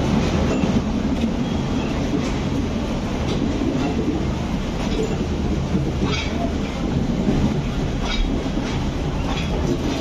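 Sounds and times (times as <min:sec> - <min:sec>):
train coaches rumbling past: 0:00.0 - 0:10.0
wheels clicking over rail joints: 0:00.0 - 0:10.0.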